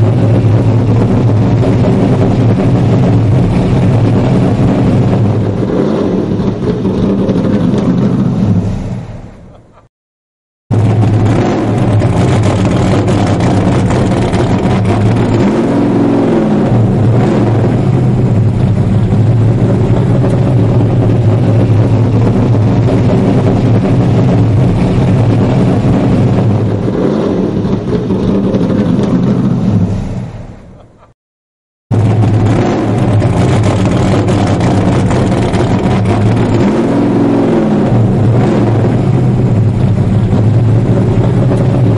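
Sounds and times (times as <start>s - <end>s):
loud car engine running: 0.0s - 9.9s, 10.7s - 31.1s, 31.9s - 41.9s.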